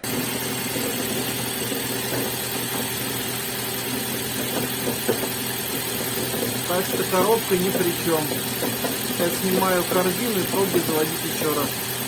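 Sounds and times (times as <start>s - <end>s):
car engine idling: 0.0s - 12.0s
flywheel knocking: 0.0s - 12.0s.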